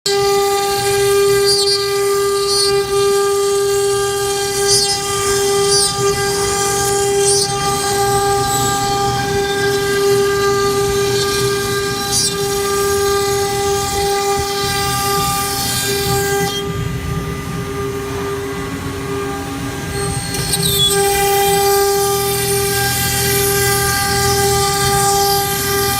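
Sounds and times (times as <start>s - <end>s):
router spindle high whine: 0.1s - 25.9s.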